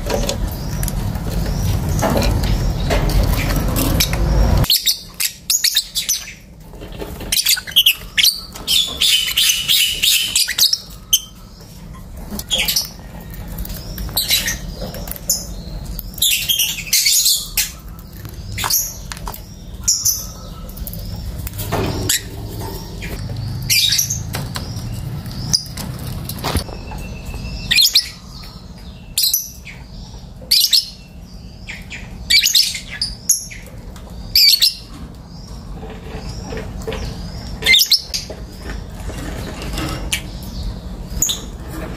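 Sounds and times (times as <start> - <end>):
lovebirds chirping and screeching: 0.0 - 41.9.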